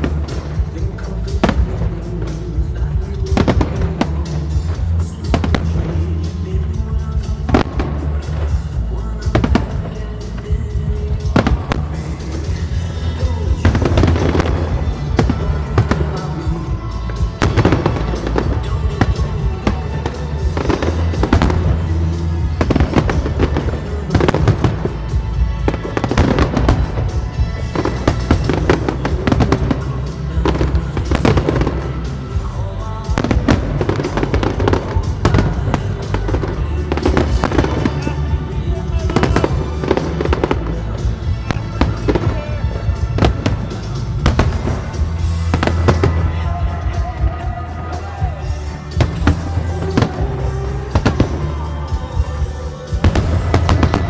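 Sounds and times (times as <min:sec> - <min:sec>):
fireworks bangs and crackles: 0:00.0 - 0:54.0
loud music with heavy bass: 0:00.0 - 0:54.0.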